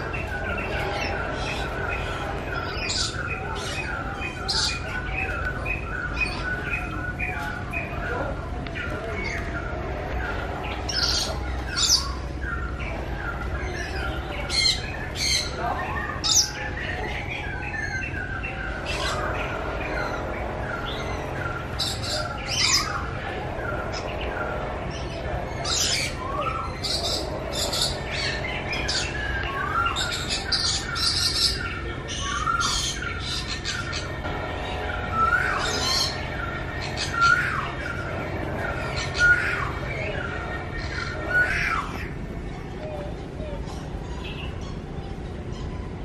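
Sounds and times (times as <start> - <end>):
sharp high-pitched bird calls: 0.0 - 42.4
birds chirping: 0.0 - 46.0.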